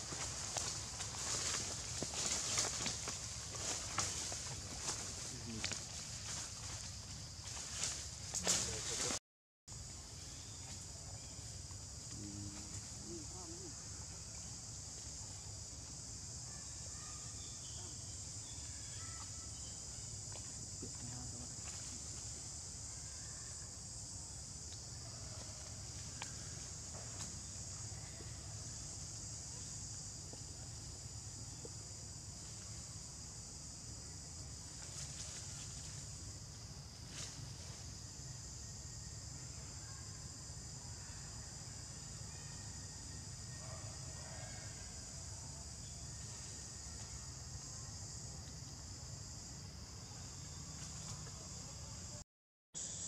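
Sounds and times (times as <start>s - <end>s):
insect chorus: 0.0s - 52.2s, 52.8s - 53.0s.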